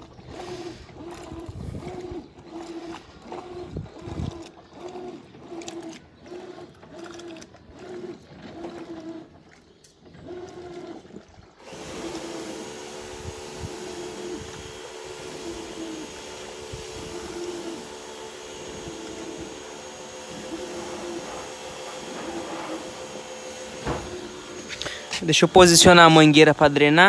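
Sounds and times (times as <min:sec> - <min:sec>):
water sloshing: 0:00.0 - 0:12.1, 0:14.0 - 0:27.0
washing machine motor humming: 0:00.0 - 0:27.0.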